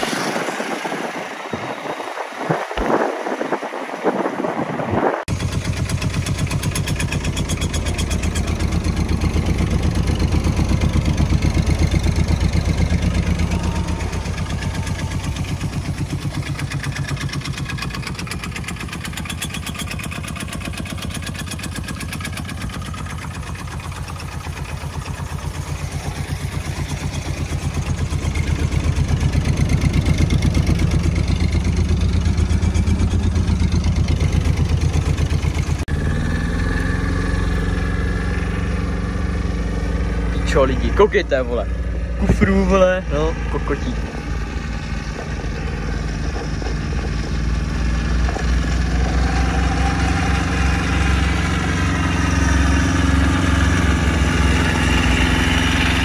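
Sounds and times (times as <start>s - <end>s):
small car engine running: 0.0s - 56.0s.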